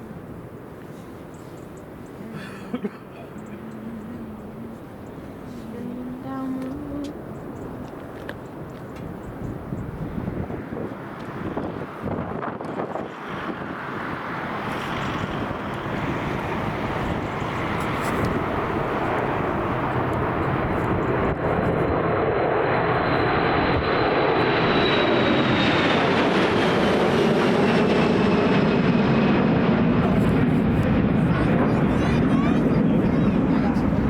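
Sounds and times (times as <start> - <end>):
high engine whine: 0.0 - 34.0
jet airliner passing: 0.0 - 34.0.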